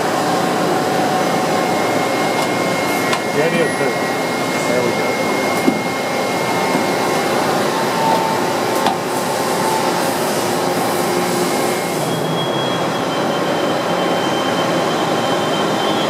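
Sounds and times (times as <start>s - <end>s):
faint high whining tones: 0.0s - 16.0s.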